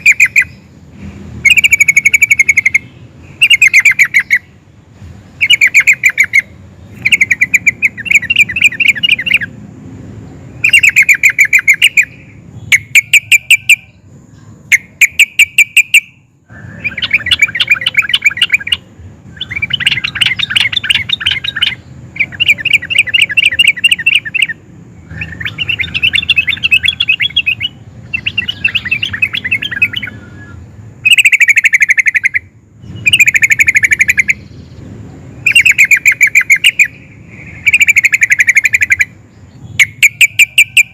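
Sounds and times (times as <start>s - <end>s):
bulbul singing: 0.0s - 40.9s.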